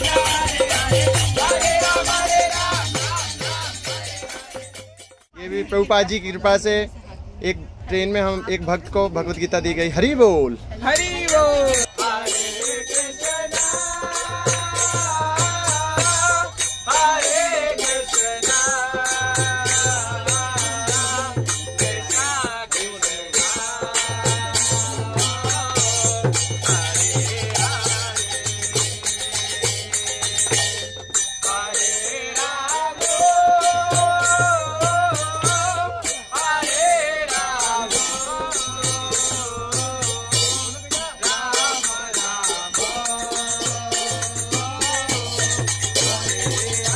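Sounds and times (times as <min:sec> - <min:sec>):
voices singing a chant: 0:00.0 - 0:04.9, 0:10.9 - 0:46.9
hand cymbals ringing: 0:00.0 - 0:05.3, 0:11.0 - 0:46.9.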